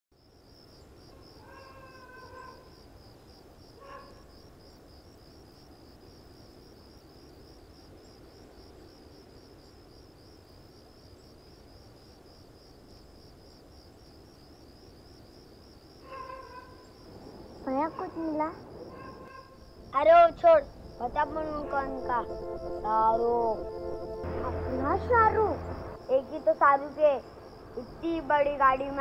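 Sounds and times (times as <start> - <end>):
crickets chirping: 0.1 - 29.0.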